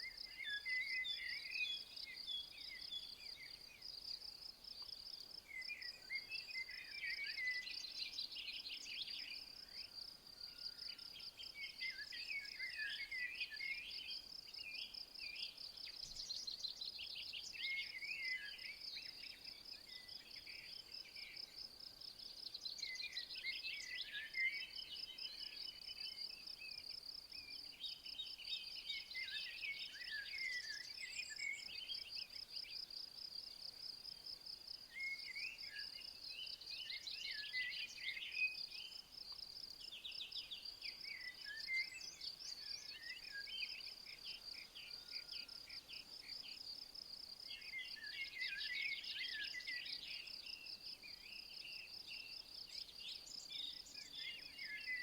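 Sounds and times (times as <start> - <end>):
bird song: 0.0 - 55.0.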